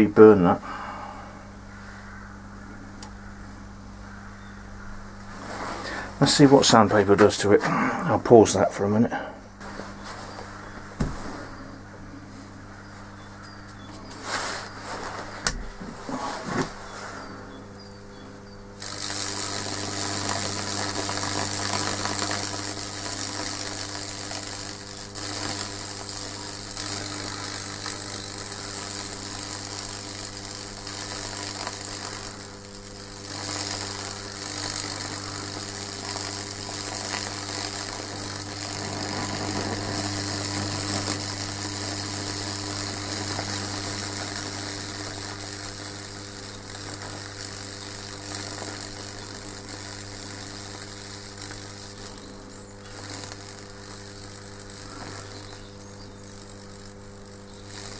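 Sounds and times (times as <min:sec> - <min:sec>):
electric arc crackling: 0:00.0 - 0:00.8, 0:01.5 - 0:57.9
transformer buzzing: 0:00.0 - 0:57.9.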